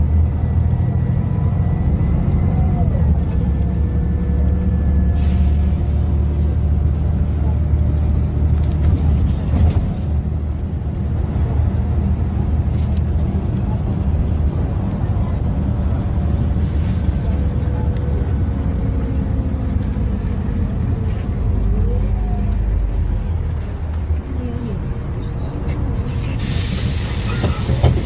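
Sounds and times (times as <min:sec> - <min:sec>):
bus engine running: 0:00.0 - 0:28.0
road and tyre noise: 0:00.0 - 0:28.0.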